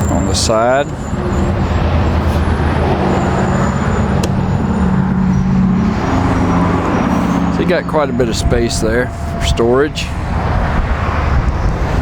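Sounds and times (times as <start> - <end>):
drone of traffic: 0.0 - 12.0.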